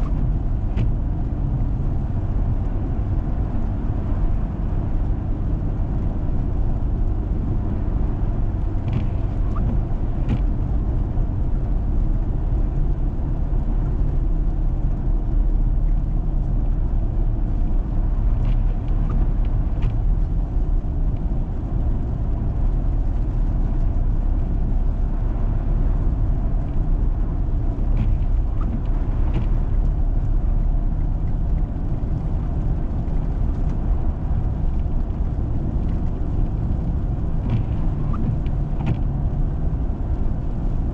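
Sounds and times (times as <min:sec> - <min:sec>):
vehicle driving on snowy road: 0:00.0 - 0:40.9.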